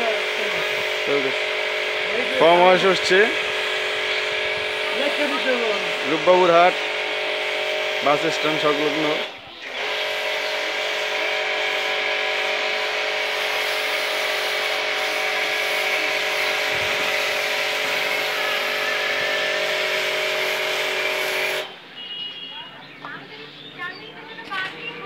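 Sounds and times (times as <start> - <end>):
pressure washer spraying: 0.0 - 22.5.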